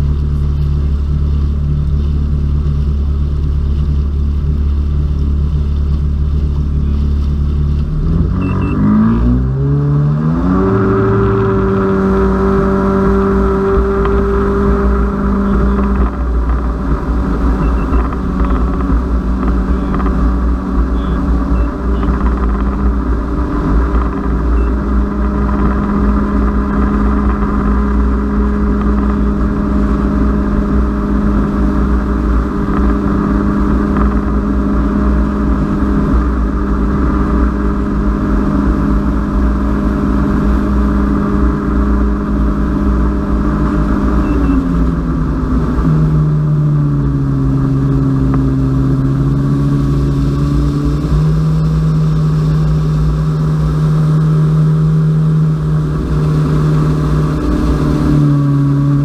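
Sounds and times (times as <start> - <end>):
jet ski engine drone: 0.0 - 59.0
wind rushing over microphone: 4.0 - 59.0.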